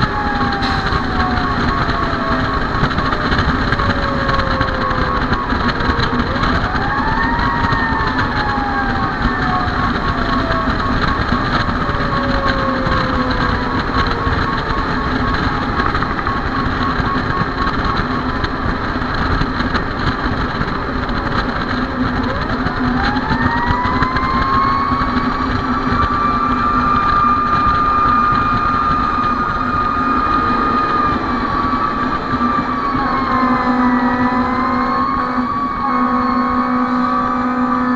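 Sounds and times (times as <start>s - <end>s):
engine and road noise: 0.0s - 37.9s.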